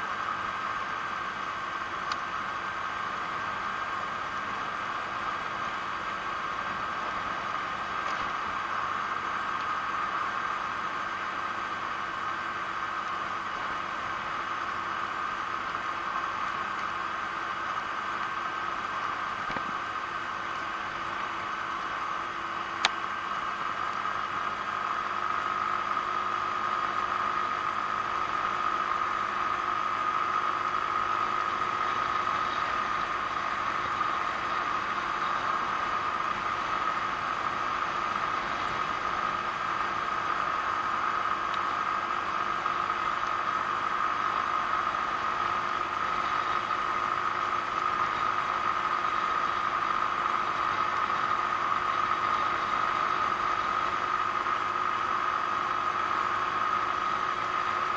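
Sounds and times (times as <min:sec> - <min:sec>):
scooter engine running steadily: 0:00.0 - 0:57.9
wind and road noise: 0:00.0 - 0:57.9.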